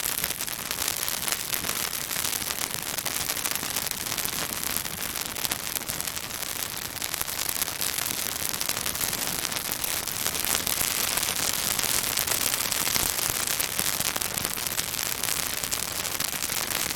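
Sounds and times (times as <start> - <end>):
branches crackling in a bonfire: 0.0 - 16.9.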